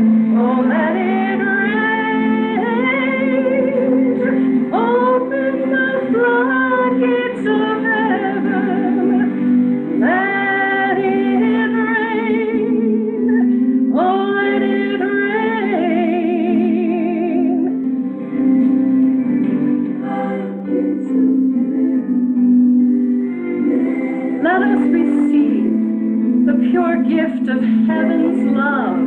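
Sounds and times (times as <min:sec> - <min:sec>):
instrumental accompaniment: 0:00.0 - 0:29.0
woman singing worship song: 0:00.0 - 0:29.0.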